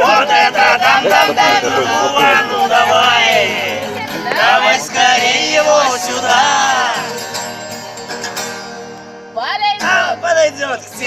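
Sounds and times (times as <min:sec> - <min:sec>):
strummed guitar chords: 0:00.0 - 0:11.0.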